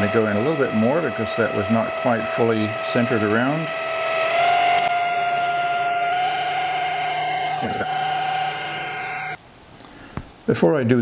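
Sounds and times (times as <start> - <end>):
cutting tool on brass rod: 0.0 - 9.4
lathe whining: 0.0 - 9.4.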